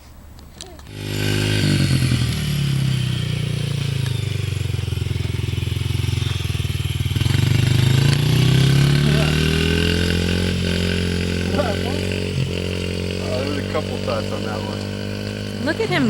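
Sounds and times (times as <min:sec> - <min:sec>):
dirt bike engine: 0:00.0 - 0:16.0.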